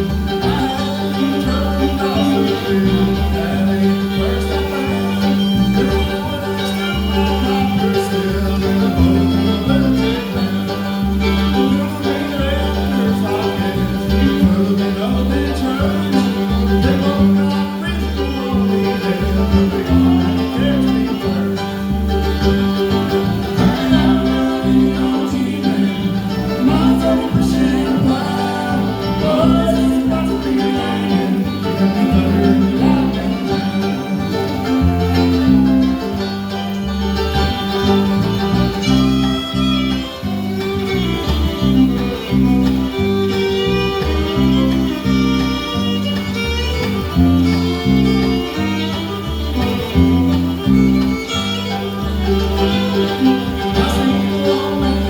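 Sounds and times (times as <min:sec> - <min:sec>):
acoustic guitar: 0:00.0 - 0:55.0
banjo playing: 0:00.0 - 0:55.0
bass line: 0:00.0 - 0:55.0.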